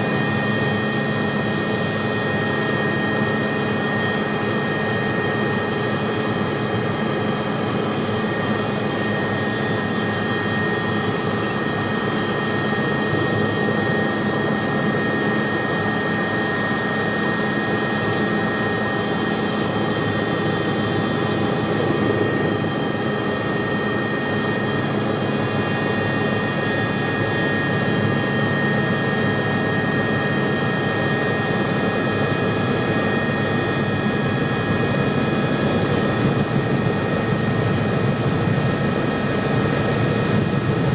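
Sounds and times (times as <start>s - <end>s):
helicopter engine and rotor: 0.0s - 40.9s
high turbine whine: 0.0s - 40.9s.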